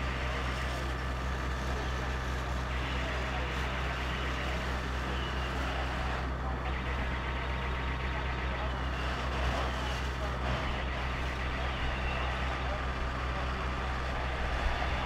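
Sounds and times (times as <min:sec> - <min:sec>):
fire engine pump engine drone: 0:00.0 - 0:15.0.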